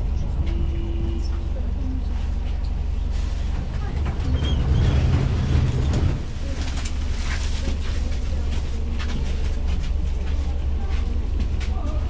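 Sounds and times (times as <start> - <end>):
funicular car rumbling on track: 0.0 - 12.0.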